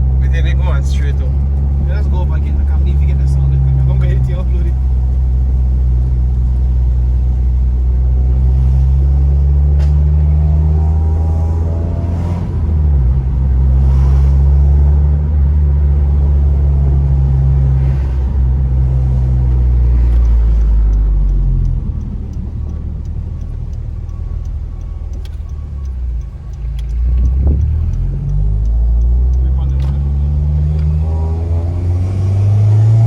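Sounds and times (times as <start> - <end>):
car engine and exhaust droning: 0.0 - 33.0.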